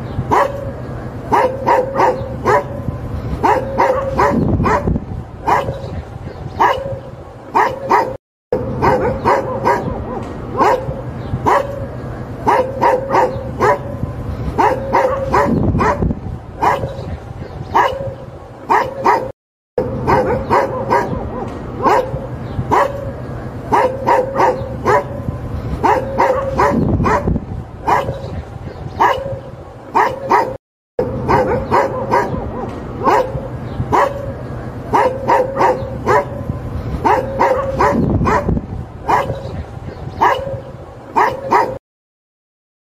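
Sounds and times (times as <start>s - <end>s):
dog barking: 0.3s - 14.0s, 14.6s - 41.8s.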